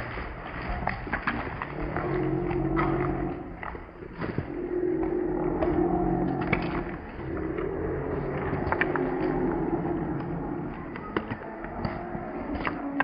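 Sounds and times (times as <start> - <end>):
geese walking and flapping wings: 0.0 - 13.0
low motor hum: 0.0 - 13.0.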